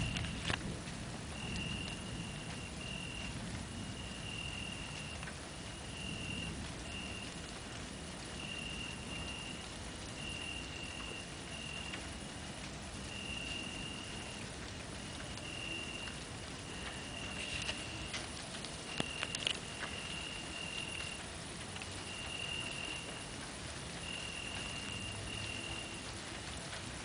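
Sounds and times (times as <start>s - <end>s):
background hiss: 0.0s - 27.0s
cricket trilling: 1.3s - 7.4s, 8.2s - 12.0s, 13.0s - 14.4s, 15.0s - 21.2s, 21.8s - 26.1s.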